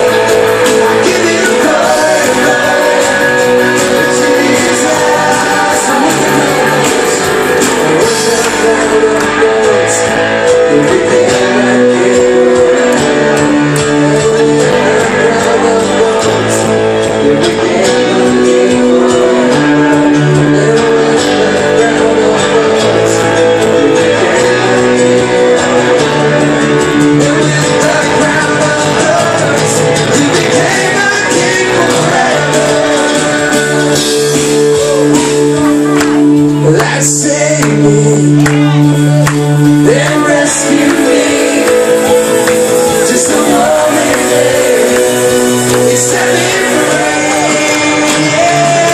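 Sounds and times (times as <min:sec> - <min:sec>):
guitar strumming chords: 0:00.0 - 0:48.9
live band playing: 0:00.0 - 0:48.9.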